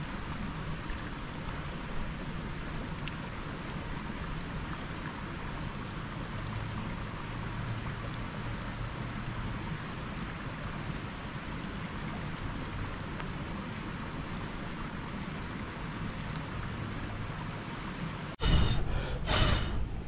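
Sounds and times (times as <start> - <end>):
rain and river rushing: 0.0 - 20.0.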